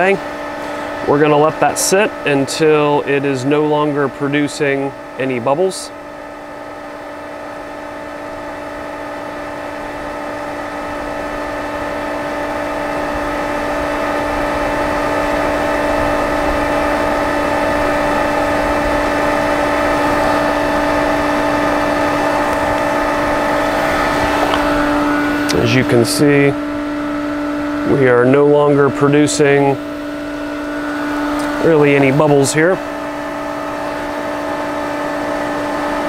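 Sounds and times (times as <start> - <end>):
pool motor humming and whining: 0.0 - 36.0.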